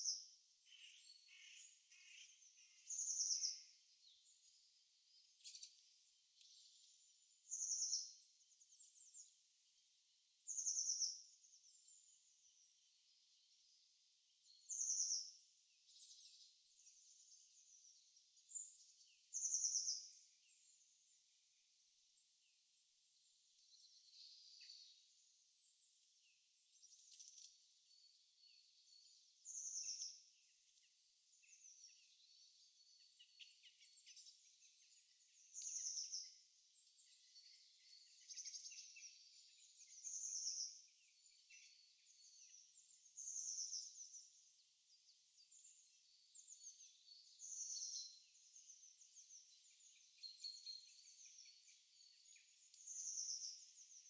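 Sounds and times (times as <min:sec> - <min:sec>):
soft continuous bird twittering: 0:00.0 - 0:54.0.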